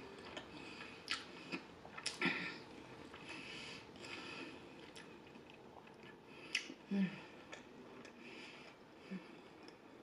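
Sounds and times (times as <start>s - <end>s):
chewing bready pizza crust: 0.0s - 10.0s.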